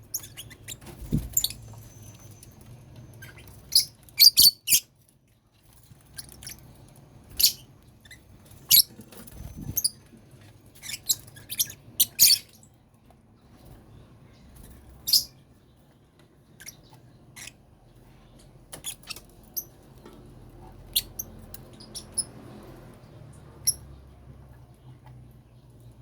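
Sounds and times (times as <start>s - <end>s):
lovebirds chirping and squeaking: 0.0s - 5.1s, 5.7s - 12.7s, 13.4s - 26.0s.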